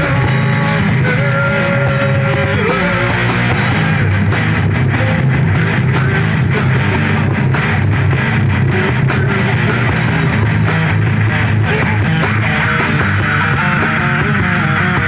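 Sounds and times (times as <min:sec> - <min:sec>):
bass guitar: 0:00.0 - 0:15.0
electric guitar riffing: 0:00.0 - 0:15.0
pounding drums: 0:00.0 - 0:15.0.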